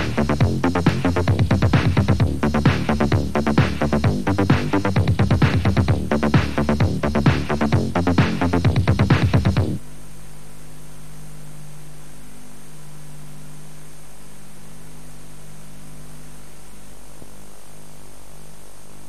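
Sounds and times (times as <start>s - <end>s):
electrical mains hum: 0.0s - 19.0s
tape hiss: 0.0s - 19.0s.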